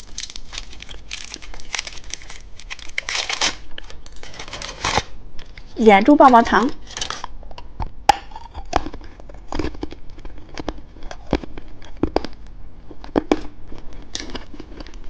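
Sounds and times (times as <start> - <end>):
plastic candy packaging crinkling: 0.0 - 7.7, 8.3 - 15.0.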